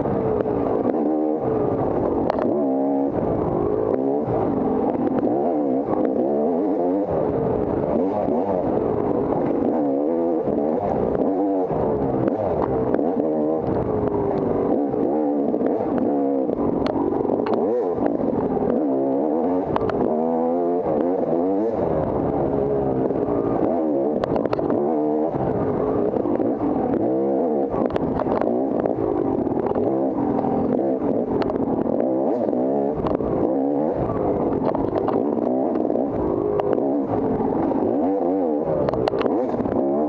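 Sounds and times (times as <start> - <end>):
dirt bike engine revving: 0.0 - 40.0
sharp clicks and clatter: 0.0 - 40.0.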